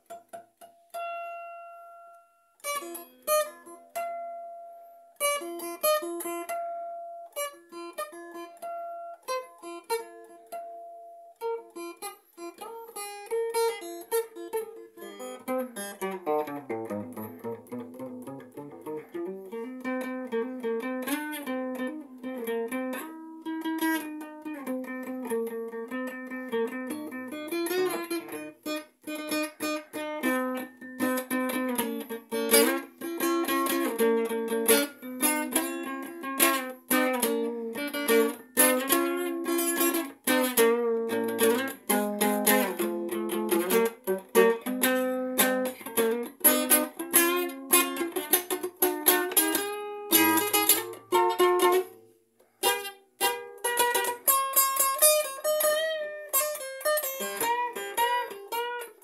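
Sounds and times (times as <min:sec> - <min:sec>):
acoustic guitar: 0:00.0 - 0:59.0.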